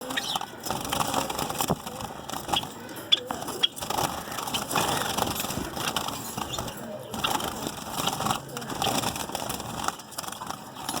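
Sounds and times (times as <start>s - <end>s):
finches chattering: 0.0s - 11.0s
rustling and clicking: 0.0s - 11.0s.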